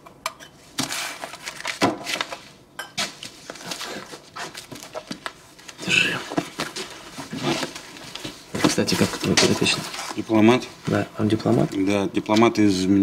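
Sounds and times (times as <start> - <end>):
books and papers stacked: 0.7 - 12.5.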